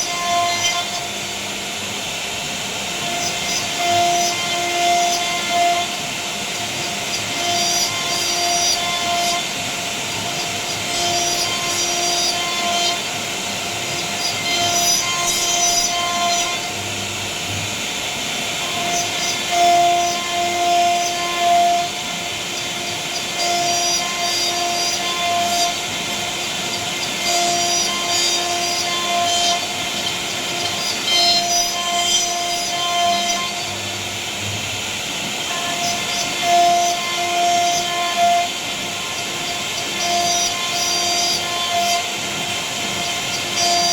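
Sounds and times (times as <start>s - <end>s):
router spindle whine: 0.0s - 43.9s
rasping cutting noise: 2.8s - 43.9s.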